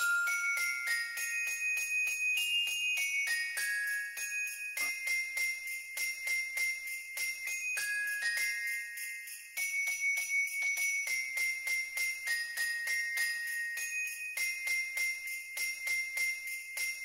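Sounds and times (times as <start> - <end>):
festive holiday tune with sleigh bells: 0.0 - 17.0.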